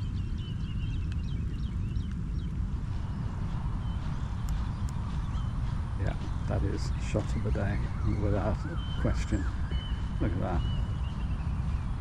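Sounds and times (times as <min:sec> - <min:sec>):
small bird chirping: 0:00.0 - 0:12.0
steady low rumble: 0:00.0 - 0:12.0.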